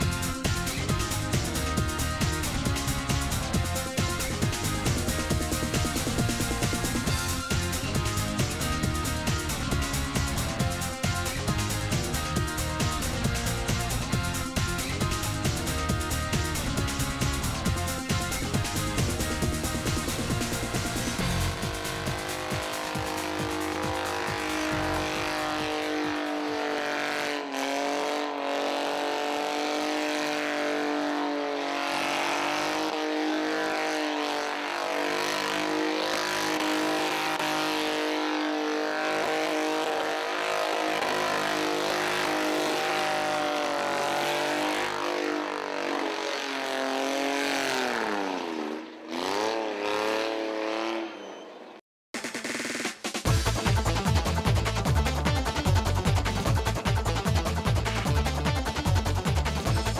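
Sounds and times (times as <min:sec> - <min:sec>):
car engine revving high: 0:00.0 - 0:51.1.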